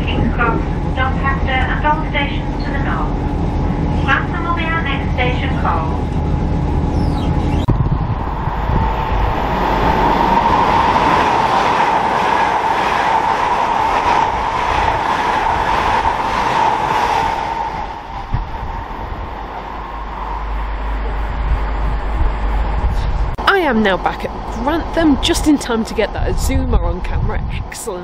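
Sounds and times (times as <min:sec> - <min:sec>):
express train passing: 0:00.0 - 0:28.0
wind rumble on microphone: 0:00.0 - 0:28.0.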